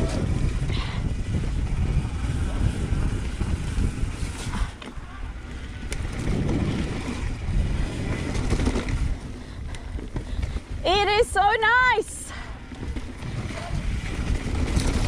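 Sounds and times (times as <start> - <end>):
bike rattling: 0.0 - 15.0
tyres rumbling over dirt: 0.0 - 15.0
wind rushing over microphone: 0.0 - 15.0.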